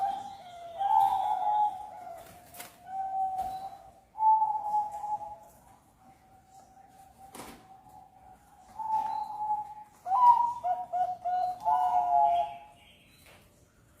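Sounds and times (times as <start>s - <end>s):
dove cooing: 0.0s - 5.6s, 6.8s - 12.7s.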